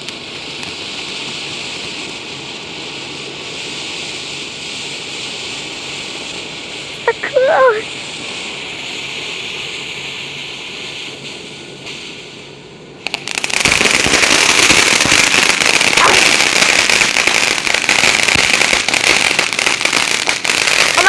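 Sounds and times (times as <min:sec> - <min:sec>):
firework crackling pops: 0:00.0 - 0:21.0
ground firework hissing: 0:00.0 - 0:21.0.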